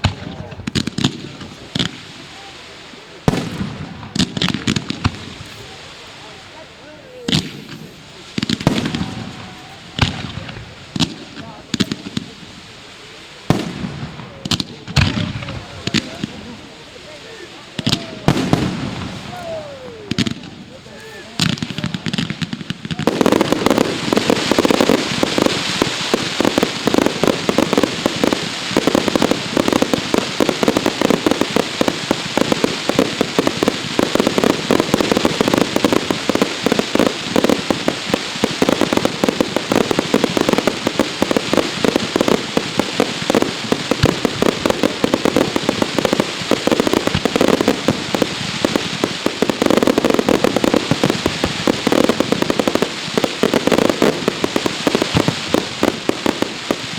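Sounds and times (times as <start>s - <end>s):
fireworks bangs and crackling: 0.0s - 56.9s.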